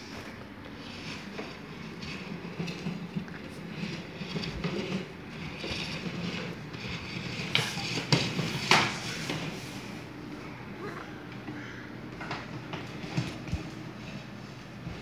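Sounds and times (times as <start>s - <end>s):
plastic wheels rolling on hardwood: 0.0s - 9.8s, 12.1s - 15.0s.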